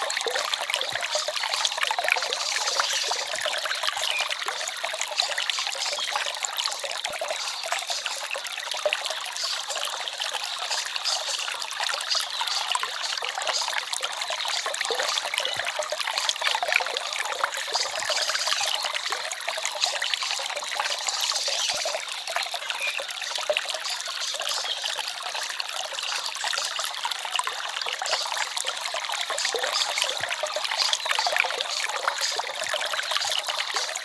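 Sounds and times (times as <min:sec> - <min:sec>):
stream babbling over stones: 0:00.0 - 0:34.0.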